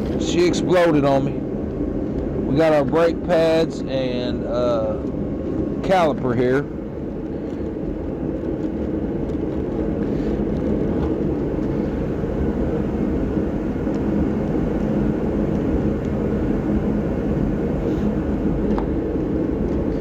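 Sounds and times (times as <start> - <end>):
low droning background noise: 0.0 - 20.0.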